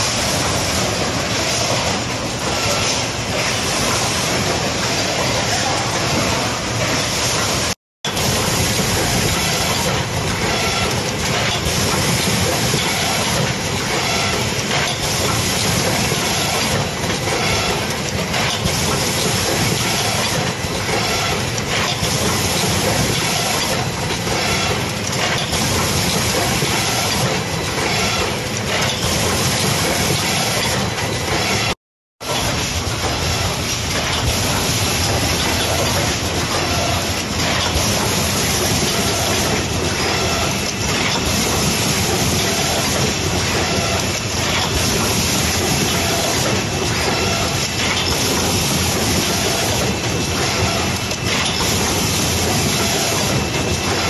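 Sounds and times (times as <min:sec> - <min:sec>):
machine mechanical clatter: 0:00.0 - 0:54.0.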